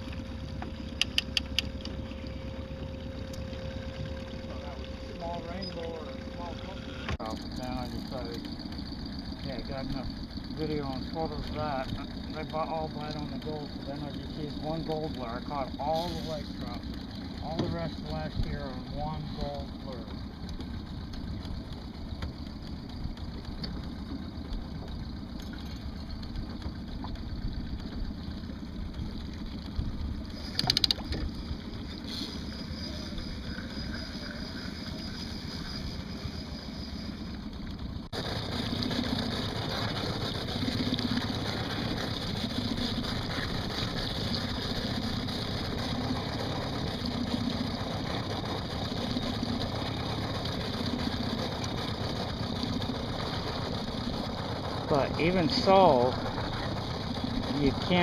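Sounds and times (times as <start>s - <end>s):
boat motor running: 0.0s - 58.0s
water washing along hull: 0.0s - 58.0s.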